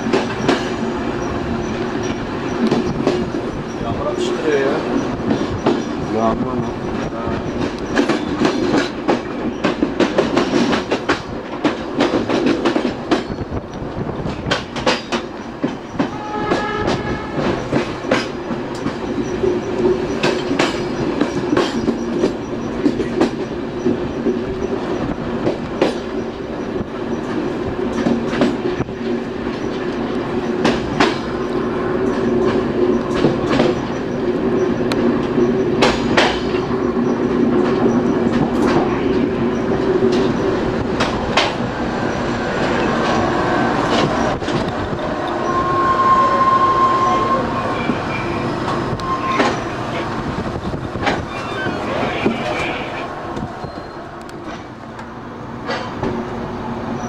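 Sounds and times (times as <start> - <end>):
train wheels clattering over joints: 0.0 - 46.0, 47.7 - 56.4
steady train hum: 0.0 - 57.0.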